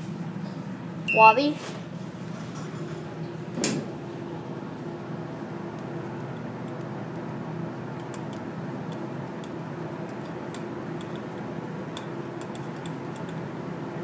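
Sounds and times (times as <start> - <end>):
elevator hum with low tone: 0.0 - 14.0.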